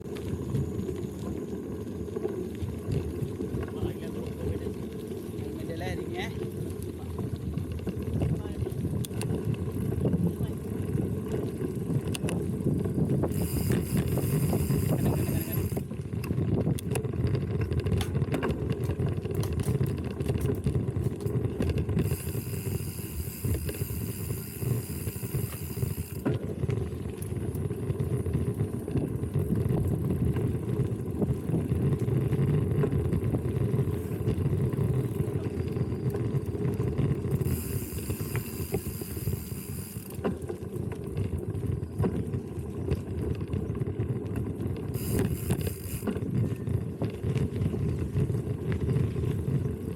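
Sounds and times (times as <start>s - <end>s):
bike rattles and clicks: 0.0s - 49.9s
bike tyres and wind rumble: 0.0s - 49.9s.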